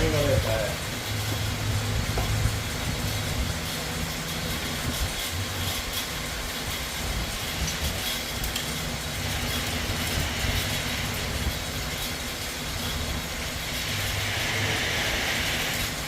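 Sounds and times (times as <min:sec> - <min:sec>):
electric fan running: 0:00.0 - 0:16.0.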